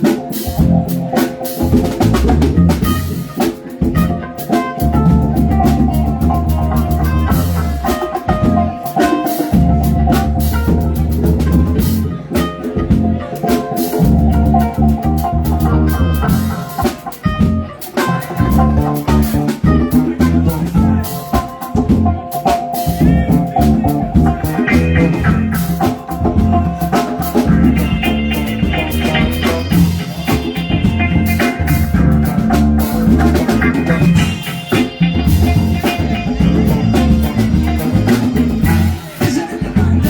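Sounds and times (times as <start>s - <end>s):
bass guitar: 0.0s - 40.0s
drum kit: 0.0s - 40.0s
electric guitar: 0.0s - 40.0s.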